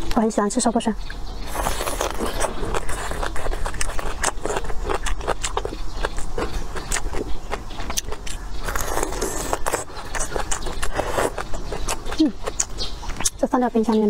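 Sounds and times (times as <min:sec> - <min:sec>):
chewing clicks and mouth smacks: 0:01.1 - 0:13.4.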